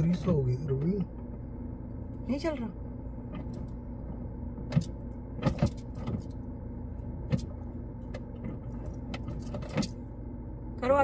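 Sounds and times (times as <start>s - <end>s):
low hum inside car: 0.0s - 11.0s.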